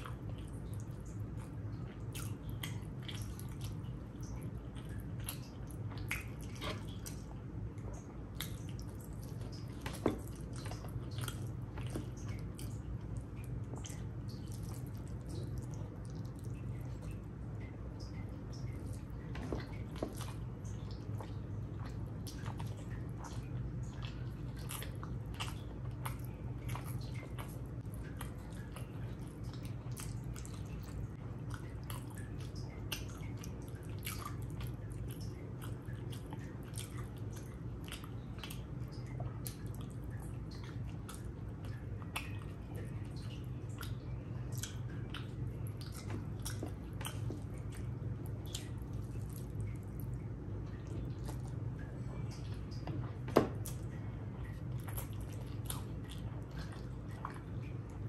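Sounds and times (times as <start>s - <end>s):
person chewing food: 0.0s - 58.0s
steady low hum: 0.0s - 58.0s.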